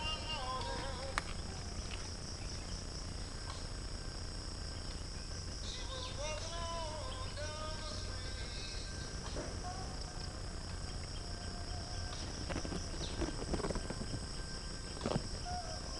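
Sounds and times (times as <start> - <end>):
insects droning: 0.0 - 15.9.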